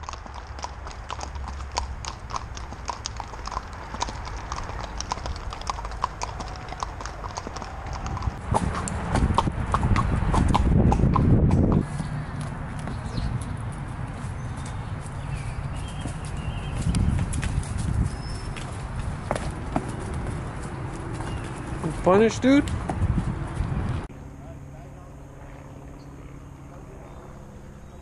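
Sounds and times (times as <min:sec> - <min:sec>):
hooves clip-clopping on asphalt: 0:00.0 - 0:24.1.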